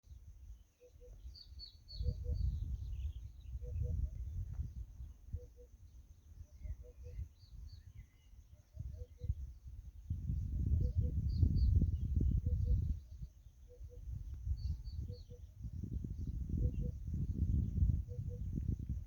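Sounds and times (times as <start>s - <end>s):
wind buffeting microphone: 1.9s - 5.6s, 6.2s - 19.0s.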